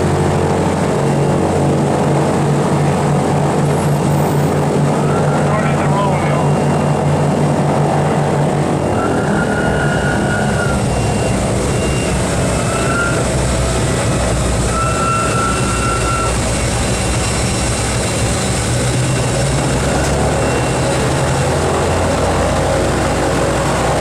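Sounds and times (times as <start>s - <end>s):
propeller aircraft engines running: 0.0s - 24.0s.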